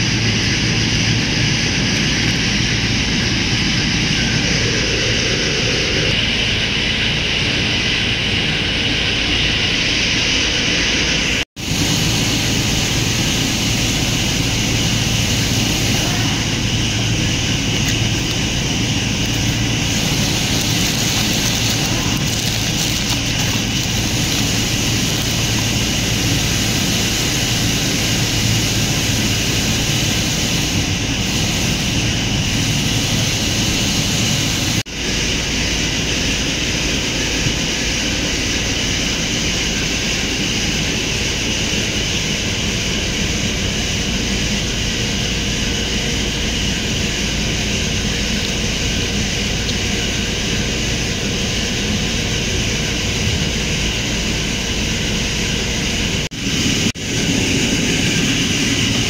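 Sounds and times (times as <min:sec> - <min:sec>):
machine drone and hum: 0:00.0 - 0:59.0.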